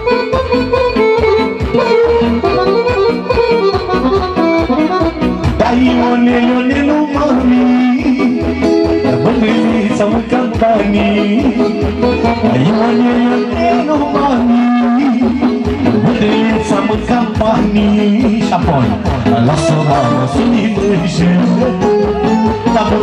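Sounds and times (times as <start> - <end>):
band playing folk dance music: 0.0 - 23.0.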